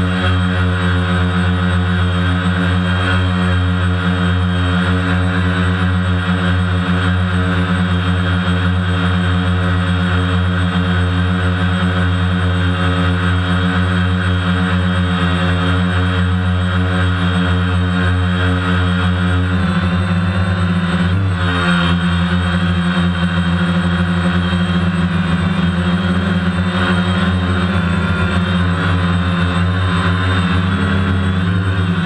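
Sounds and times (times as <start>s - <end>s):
drone propellers whirring: 0.0s - 32.0s.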